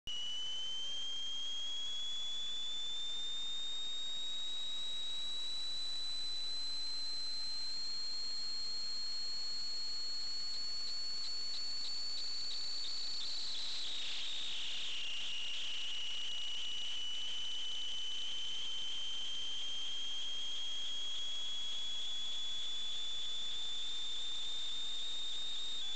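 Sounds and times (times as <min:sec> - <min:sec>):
high-pitched electronic whine: 0:00.1 - 0:25.9.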